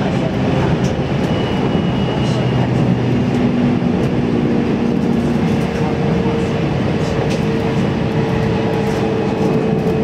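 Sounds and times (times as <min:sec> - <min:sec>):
train motors humming: 0:00.0 - 0:10.0
train wheels rumbling on rail: 0:00.0 - 0:10.0.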